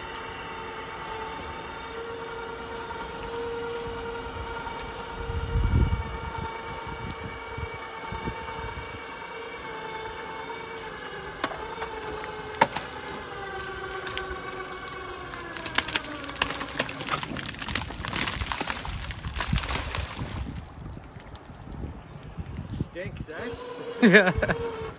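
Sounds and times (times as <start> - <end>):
winch whining: 0.0 - 21.1, 23.0 - 24.9.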